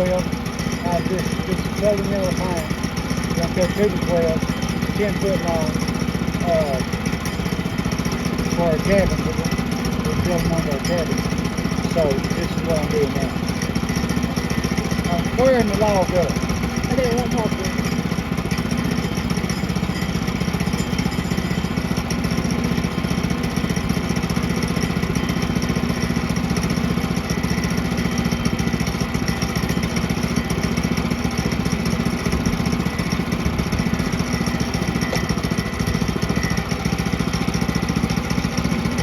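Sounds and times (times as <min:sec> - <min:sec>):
gasoline engine running: 0:00.0 - 0:39.0.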